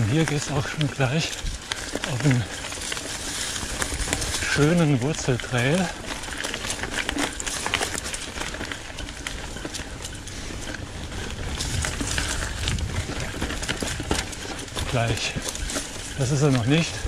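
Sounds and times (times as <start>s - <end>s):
bike clicks and rattles: 0.0s - 17.0s
bike tyres rolling on dirt: 0.0s - 17.0s.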